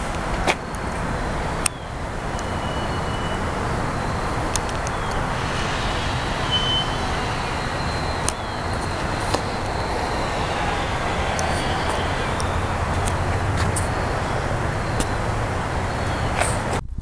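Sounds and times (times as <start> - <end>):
rushing background noise: 0.0 - 16.8.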